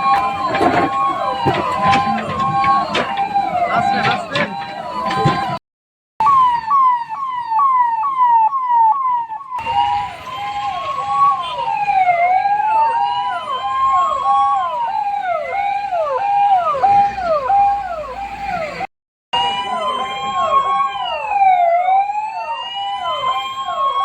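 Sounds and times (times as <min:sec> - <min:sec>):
emergency vehicle sirens: 0:00.0 - 0:05.6, 0:06.2 - 0:24.0.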